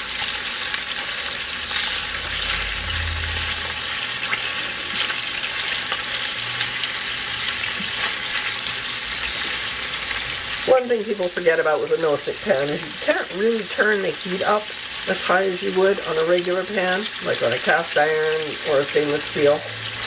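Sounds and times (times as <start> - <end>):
chicken sizzling in a frying pan: 0.0 - 20.0.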